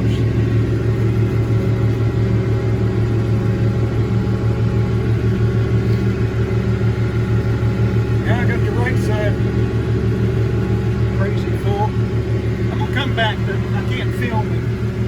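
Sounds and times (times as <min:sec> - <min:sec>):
tractor diesel engine droning: 0:00.0 - 0:15.0.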